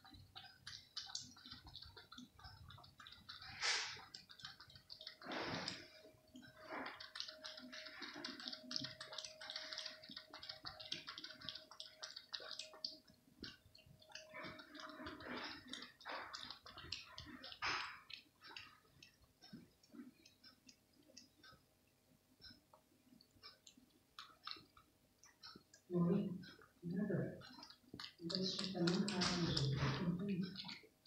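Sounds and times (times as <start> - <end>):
cat lapping milk: 0.0 - 31.0.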